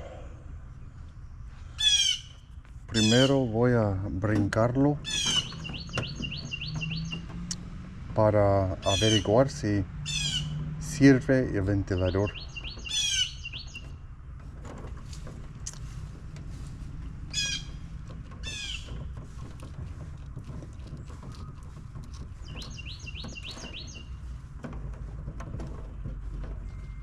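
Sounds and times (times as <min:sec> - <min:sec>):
songbird chirping: 0:00.6 - 0:27.0.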